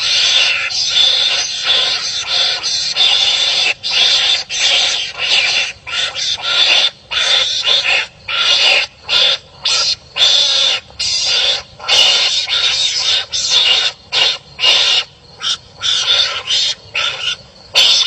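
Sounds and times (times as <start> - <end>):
animals barking harshly: 0.0 - 18.0.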